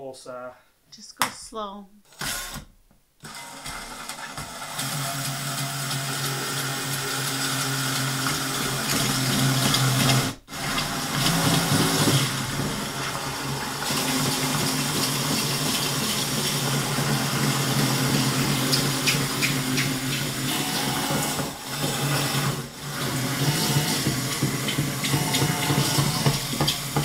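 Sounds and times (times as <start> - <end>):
cordless drill cutting plastic: 2.1 - 27.0.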